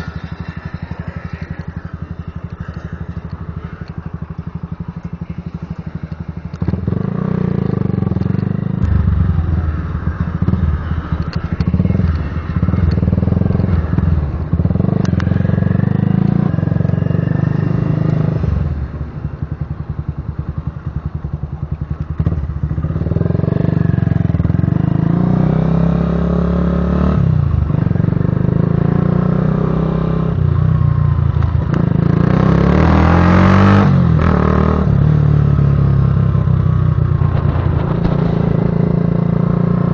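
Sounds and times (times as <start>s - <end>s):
motorcycle exhaust rumbling: 0.0s - 39.9s.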